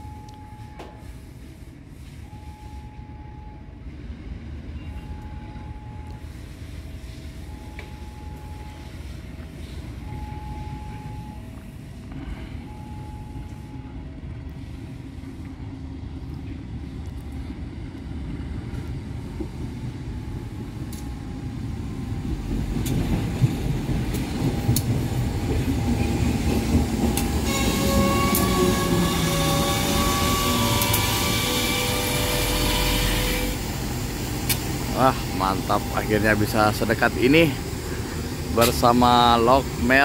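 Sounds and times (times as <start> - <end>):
diesel locomotive engine rumble: 0.0 - 40.0.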